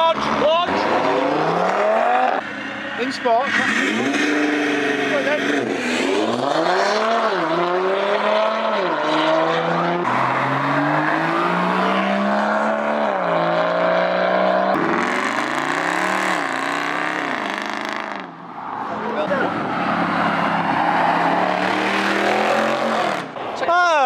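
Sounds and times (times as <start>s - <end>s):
car engine revving hard: 0.0s - 2.4s, 3.4s - 18.4s, 19.2s - 23.4s.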